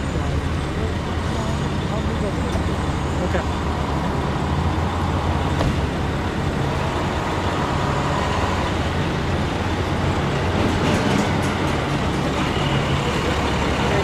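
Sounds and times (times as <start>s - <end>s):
heavy dump truck approaching: 0.0s - 14.0s
tyre and road noise: 0.0s - 14.0s
vehicle engine drone: 0.0s - 14.0s.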